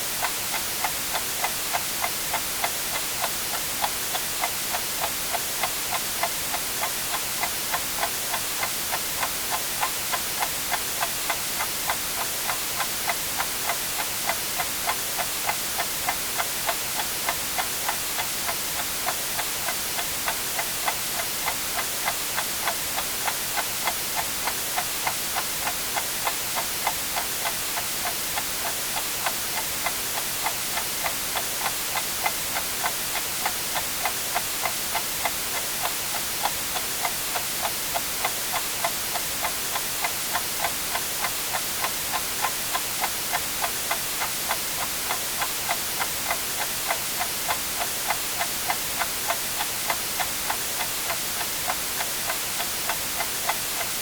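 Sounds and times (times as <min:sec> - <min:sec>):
white noise hiss: 0:00.0 - 0:54.0
clock ticking: 0:00.2 - 0:54.0.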